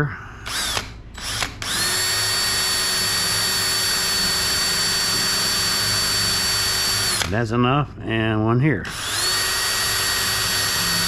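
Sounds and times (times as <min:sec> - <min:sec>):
power drill drilling into wood: 0:00.5 - 0:07.3, 0:08.9 - 0:11.0.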